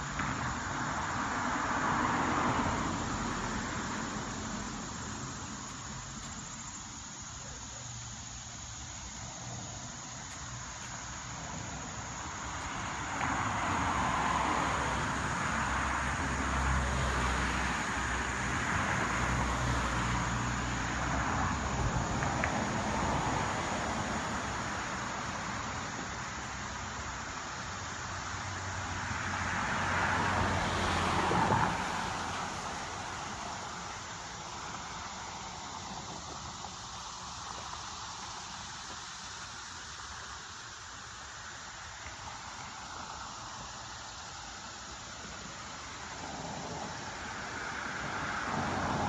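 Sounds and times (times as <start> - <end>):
road traffic passing: 0.0 - 49.0.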